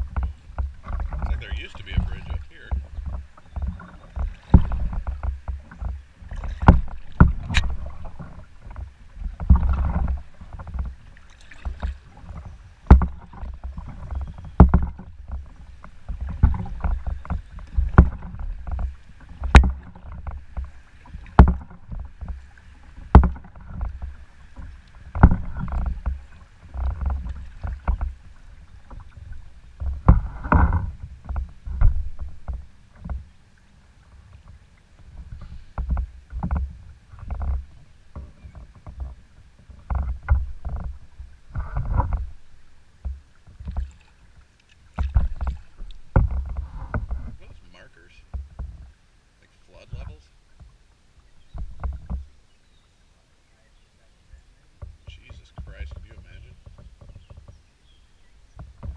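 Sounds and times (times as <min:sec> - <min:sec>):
paddle knocking on canoe: 0:00.0 - 0:52.9, 0:54.3 - 0:58.9
paddle swishing through water: 0:00.0 - 0:58.9.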